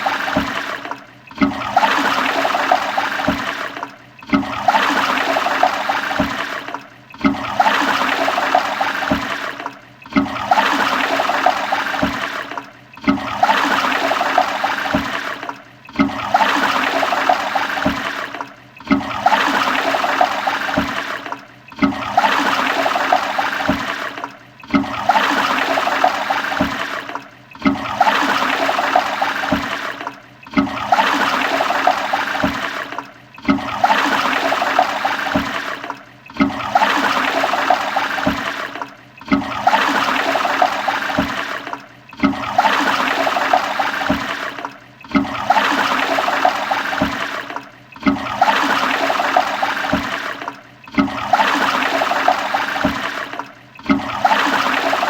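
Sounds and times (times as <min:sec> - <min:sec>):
toilet flushing: 0:00.0 - 0:55.0.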